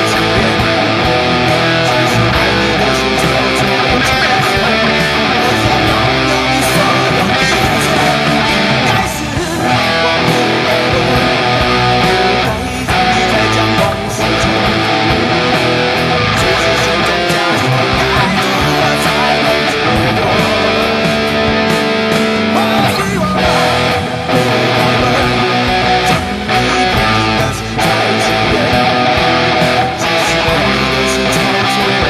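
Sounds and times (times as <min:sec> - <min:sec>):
guitar-led music: 0:00.0 - 0:32.0.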